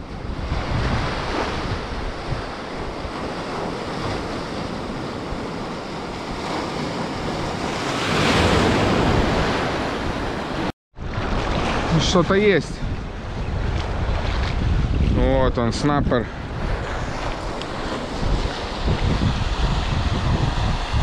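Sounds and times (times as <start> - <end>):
sea surf washing on shore: 0.0 - 21.0
wind buffeting microphone: 0.0 - 21.0.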